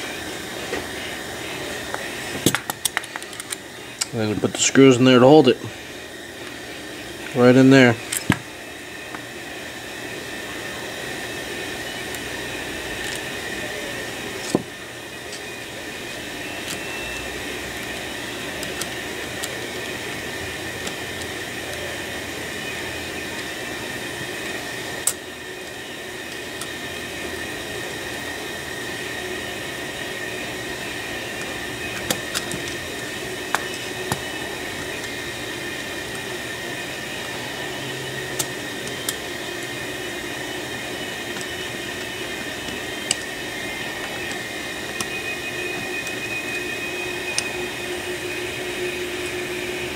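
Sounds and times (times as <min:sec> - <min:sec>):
faint high whine: 0:00.0 - 0:49.9.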